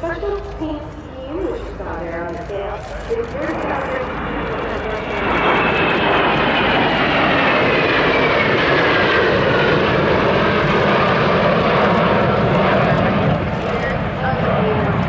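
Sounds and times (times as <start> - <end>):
jets flying past: 0.5 - 15.0.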